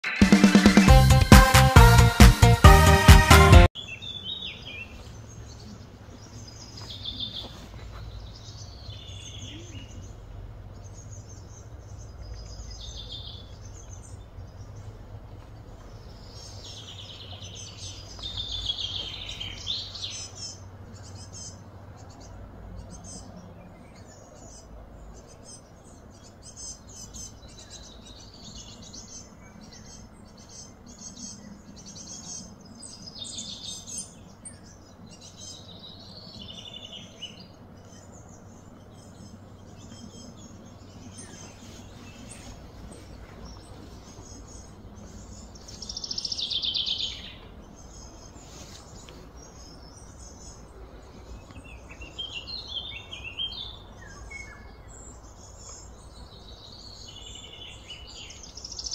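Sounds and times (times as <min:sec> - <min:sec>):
birds singing and chirping: 0:03.7 - 0:58.9
steady low hum: 0:04.5 - 0:58.6.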